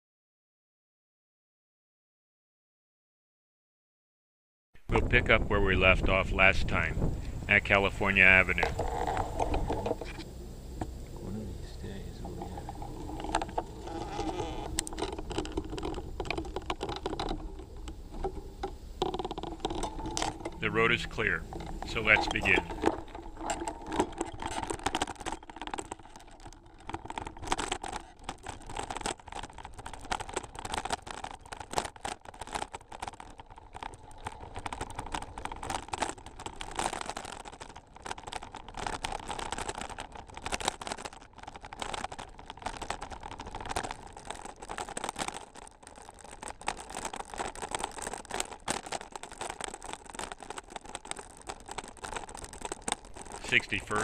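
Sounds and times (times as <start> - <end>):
bicycle rattling over rough ground: 4.9 - 54.0.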